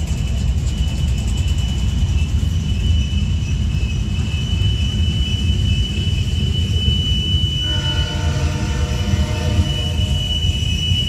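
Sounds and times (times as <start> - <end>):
lower wheel squeal: 0.0 - 11.0
steel wheels rumbling on rails: 0.0 - 11.0
high-pitched wheel squeal: 0.2 - 11.0.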